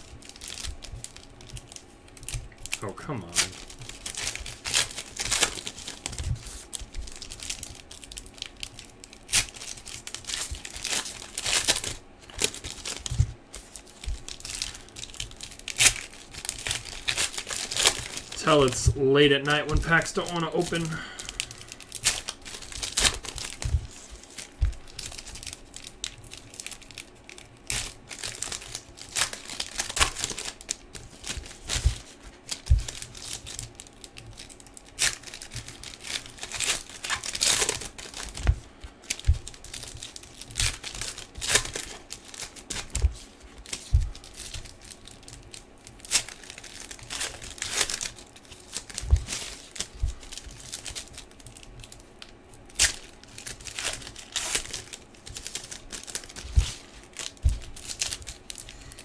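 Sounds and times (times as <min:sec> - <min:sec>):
foil wrappers tearing and crinkling: 0:00.0 - 0:59.0.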